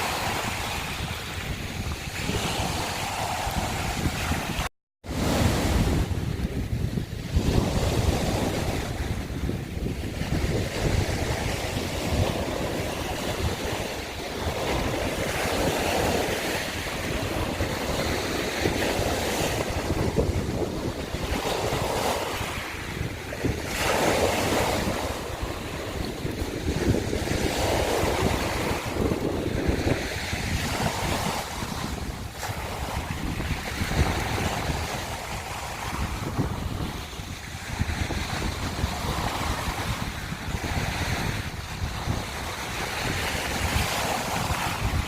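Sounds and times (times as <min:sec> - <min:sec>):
waves breaking on shells: 0:00.0 - 0:45.0
wind buffeting microphone: 0:00.0 - 0:45.0.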